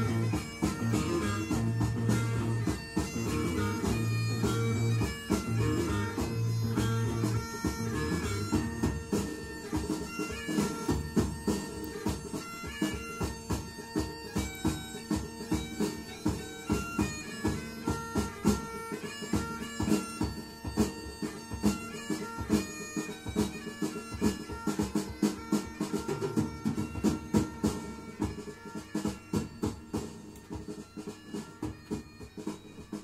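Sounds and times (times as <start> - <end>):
bagpipe melody: 0.0 - 33.0
steady drum beat: 0.0 - 33.0.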